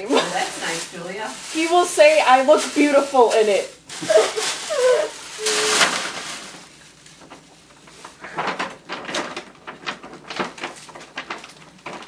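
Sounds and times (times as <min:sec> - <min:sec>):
wrapping paper tearing: 0:00.0 - 0:12.0.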